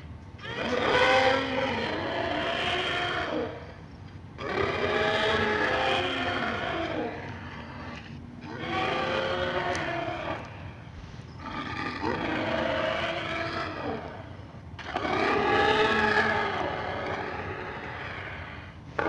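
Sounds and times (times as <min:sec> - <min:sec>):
dinosaur roars: 0:00.4 - 0:03.6, 0:04.4 - 0:10.7, 0:11.4 - 0:14.2, 0:14.8 - 0:19.0.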